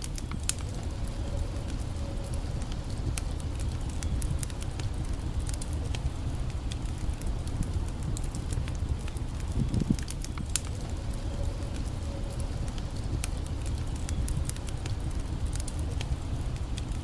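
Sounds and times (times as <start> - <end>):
campfire crackling: 0.0 - 17.0
low rushing background: 0.0 - 17.0.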